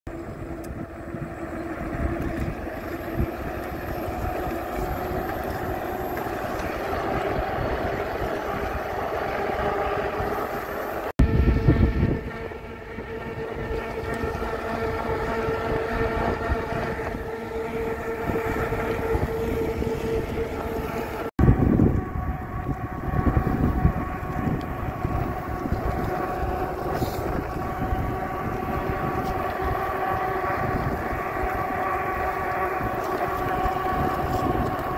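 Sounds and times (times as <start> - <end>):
electric bike motor whine: 0.1 - 34.9
wind on microphone: 0.1 - 34.9.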